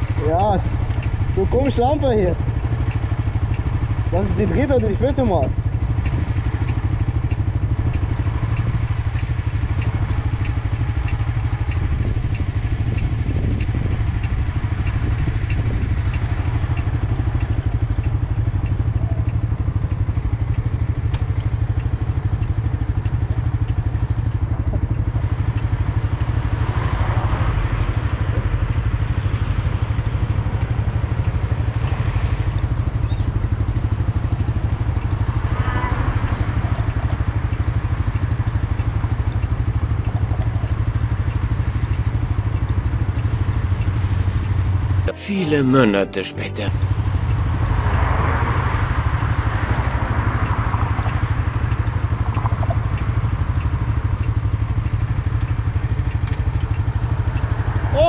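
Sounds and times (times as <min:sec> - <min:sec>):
motorcycle engine idling: 0:00.0 - 0:26.7, 0:27.5 - 0:45.0, 0:50.1 - 0:58.0
faint regular ticking: 0:00.0 - 0:35.4, 0:36.2 - 0:46.0, 0:49.1 - 0:57.7.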